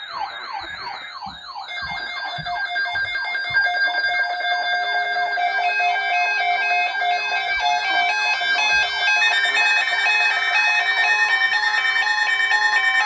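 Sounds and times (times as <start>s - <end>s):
electronic music with beeping melody: 0.0s - 13.0s.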